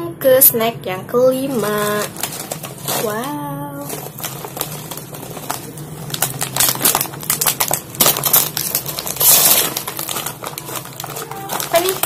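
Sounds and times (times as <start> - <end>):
plastic snack packet crinkling: 1.4 - 12.0.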